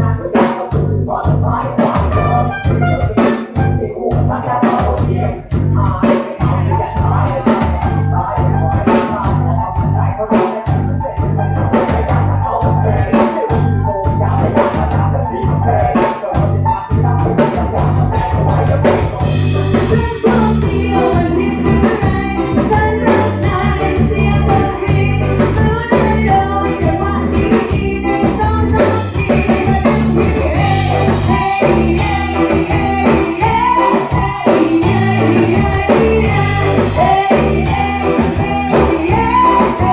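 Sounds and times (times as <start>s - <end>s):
bass line: 0.0s - 39.9s
drum kit beat: 0.0s - 39.9s
guitar: 0.0s - 39.9s
person singing: 0.0s - 39.9s.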